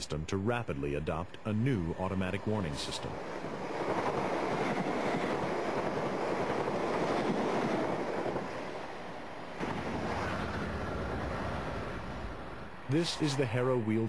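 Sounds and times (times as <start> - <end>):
passenger train passing: 0.0 - 14.0
train with heavy low rumble: 0.0 - 14.0.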